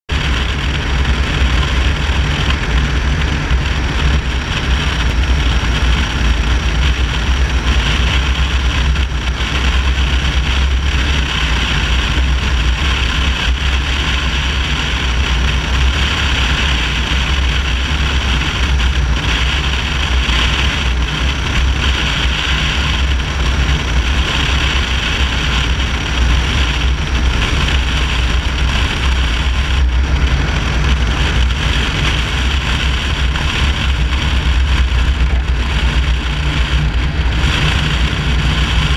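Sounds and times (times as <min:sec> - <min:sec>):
loud wind rush: 0:00.0 - 0:38.9
propeller plane engine running: 0:00.0 - 0:38.9.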